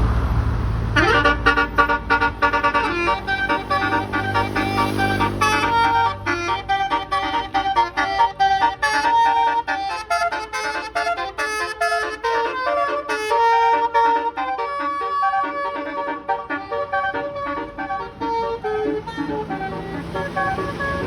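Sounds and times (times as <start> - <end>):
bus musical horn playing tune: 0.9 - 21.0.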